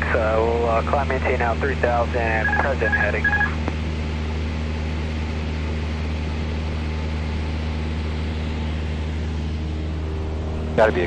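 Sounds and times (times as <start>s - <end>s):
aircraft engine drone in cabin: 0.0s - 11.0s.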